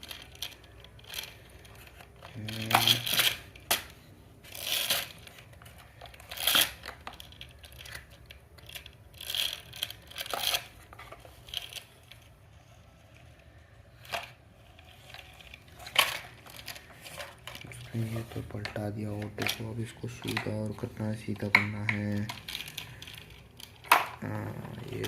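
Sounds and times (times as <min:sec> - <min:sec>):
objects scraping and rustling: 0:00.0 - 0:25.0.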